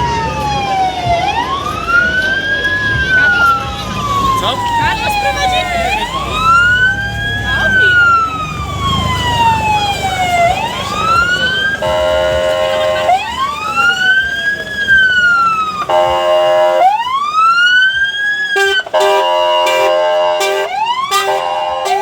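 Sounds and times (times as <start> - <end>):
fire engine sirens wailing: 0.0 - 22.0
horn blasts: 2.9 - 17.2, 18.4 - 22.0.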